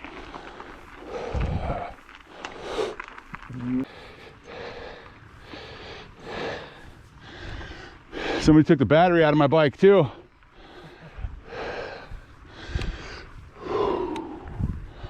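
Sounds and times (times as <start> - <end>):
heavy breathing: 0.2 - 8.6, 10.1 - 15.0.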